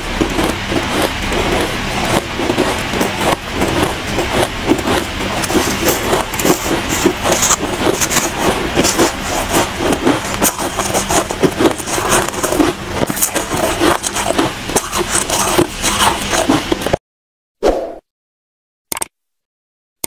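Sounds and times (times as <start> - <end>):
spoon scooping crunchy shaved ice: 0.0 - 16.9.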